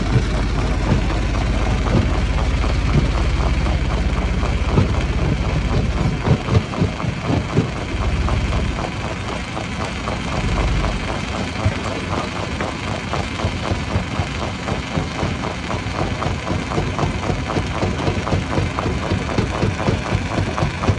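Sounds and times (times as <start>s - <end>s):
stone crusher engine drone: 0.0s - 20.9s.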